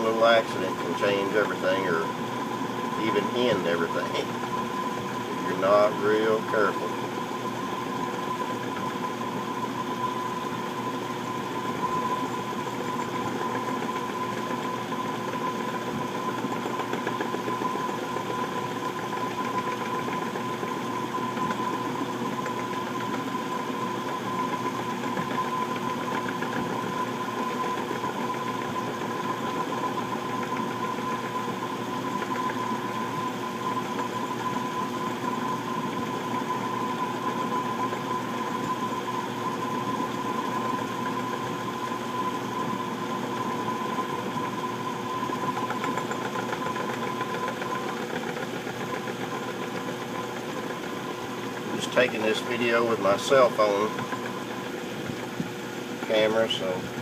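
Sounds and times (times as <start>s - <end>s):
metal lathe motor whine: 0.0s - 57.0s.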